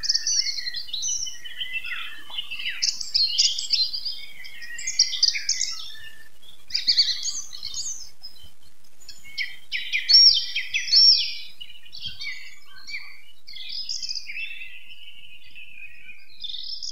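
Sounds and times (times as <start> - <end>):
songbirds singing and chirping: 0.0 - 16.9.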